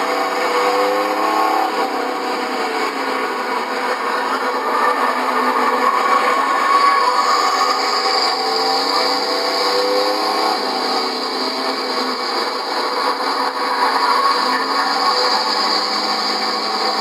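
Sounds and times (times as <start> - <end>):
race truck engines: 0.0 - 17.0.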